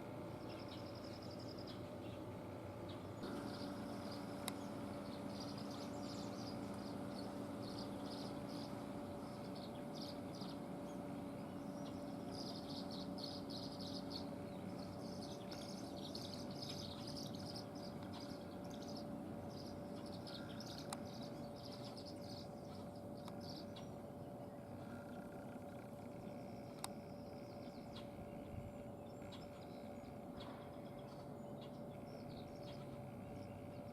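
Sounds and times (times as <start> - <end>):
small birds chirping: 0.0 - 33.9
steady low hum: 0.0 - 33.9.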